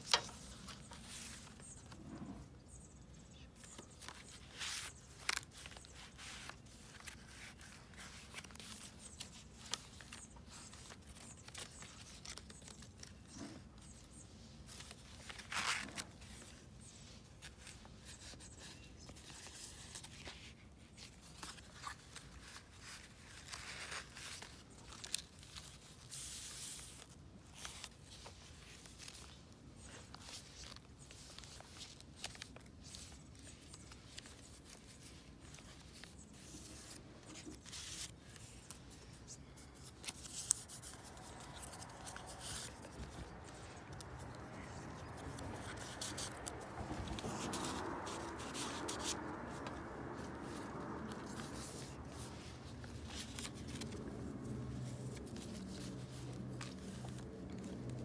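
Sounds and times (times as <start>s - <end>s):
paper pages rustling and crinkling: 0.0s - 58.0s.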